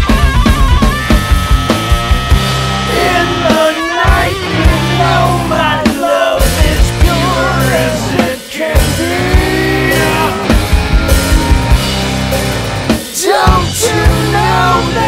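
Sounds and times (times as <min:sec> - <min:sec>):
rock song with singing and drums: 0:00.0 - 0:15.0.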